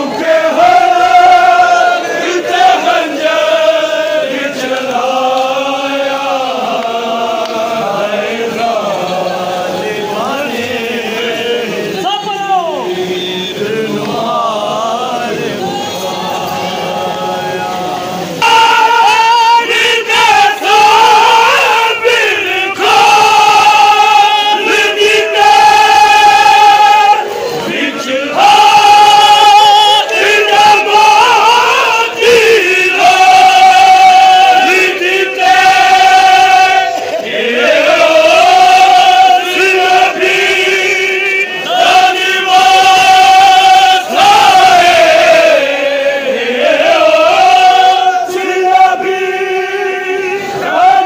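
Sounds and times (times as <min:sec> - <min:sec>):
crowd of men chanting: 0:00.0 - 0:51.0.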